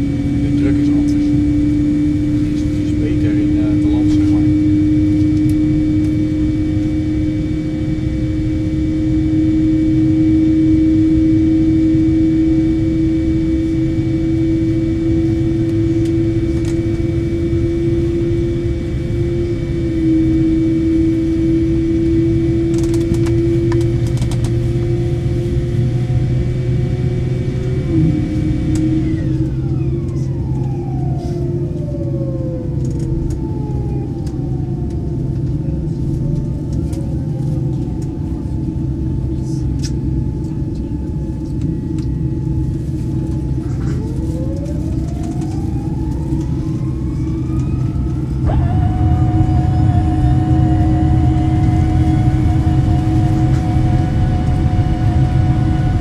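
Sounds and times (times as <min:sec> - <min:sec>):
high engine whine: 0:00.0 - 0:56.0
jet engine hum rising: 0:00.0 - 0:56.0
low cabin rumble: 0:00.0 - 0:56.0.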